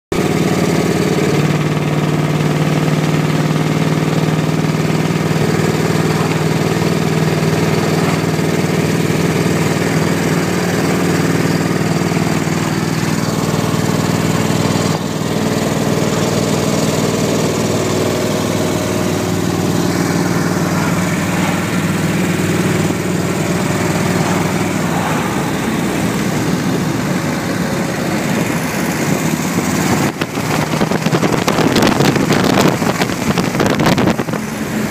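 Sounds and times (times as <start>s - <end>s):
v-twin engine running: 0.1s - 34.9s.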